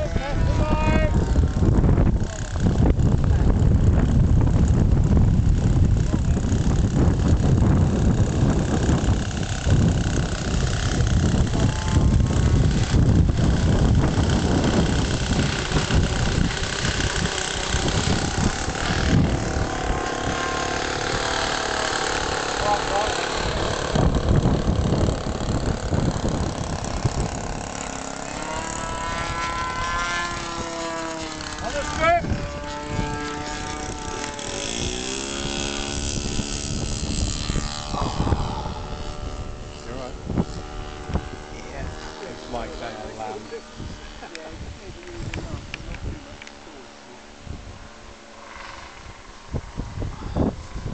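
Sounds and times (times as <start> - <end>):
distant model plane engine whine: 0.0 - 50.9
wind buffeting microphone: 0.0 - 50.9.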